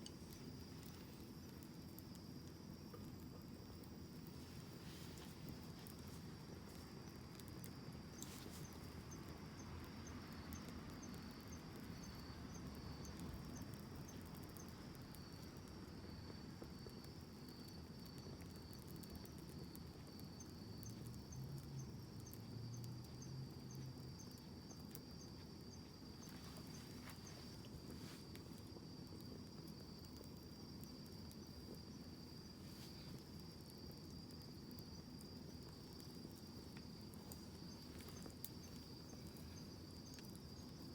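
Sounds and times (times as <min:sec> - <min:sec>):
campfire crackling pops: 0:00.0 - 0:40.9
crickets chirring: 0:00.0 - 0:40.9.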